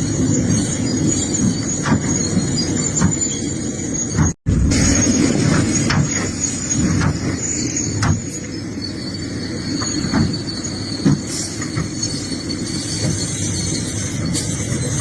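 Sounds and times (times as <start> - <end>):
excavator engine rumble: 0.0 - 15.0
high-pitched squeal: 0.0 - 15.0.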